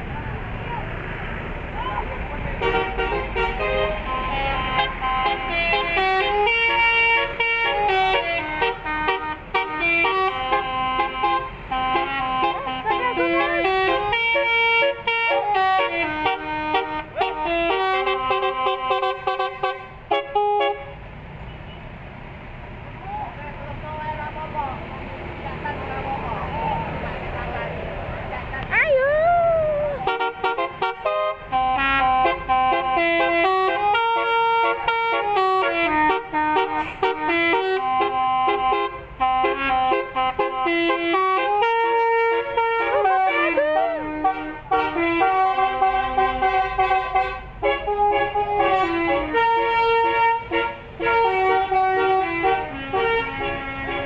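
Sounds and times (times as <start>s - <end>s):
bus horn playing a tune: 1.8s - 21.8s, 30.0s - 54.0s.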